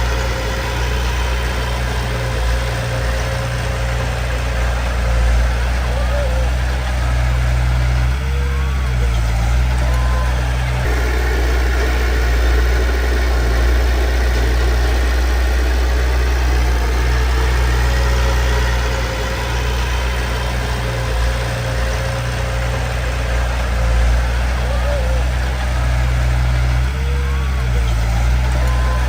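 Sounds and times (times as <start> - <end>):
diesel engine deep rumble: 0.0 - 29.0.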